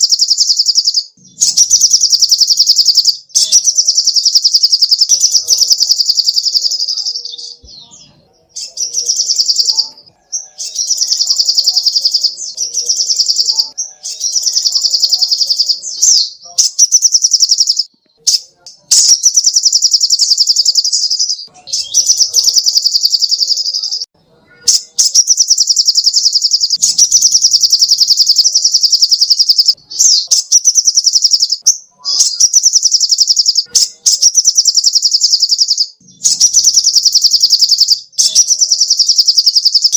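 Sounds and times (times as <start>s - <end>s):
bird singing rapid high notes: 0.0s - 39.9s.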